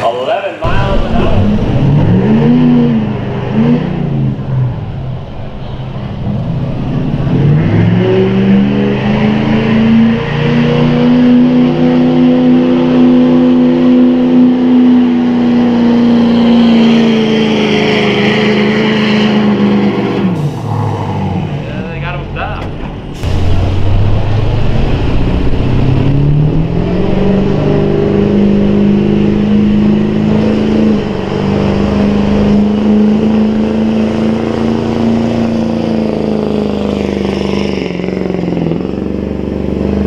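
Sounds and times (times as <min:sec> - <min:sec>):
diesel truck engine revving: 0:00.6 - 0:40.0.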